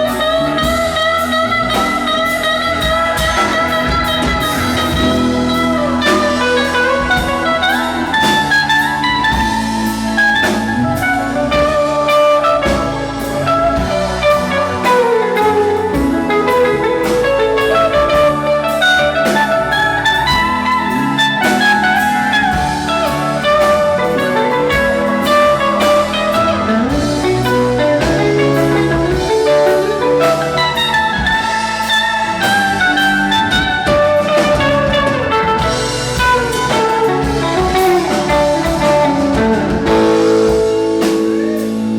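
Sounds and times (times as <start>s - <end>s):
bass: 0.0s - 41.9s
drum kit: 0.0s - 41.9s
electric guitar lead: 0.0s - 41.9s.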